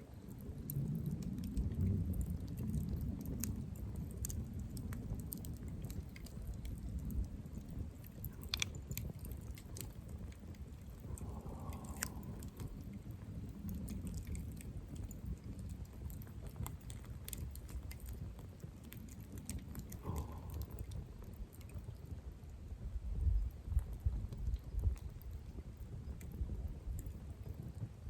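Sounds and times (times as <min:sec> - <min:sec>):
campfire wood crackling: 0:00.0 - 0:28.0
low steady rumble: 0:00.0 - 0:28.0.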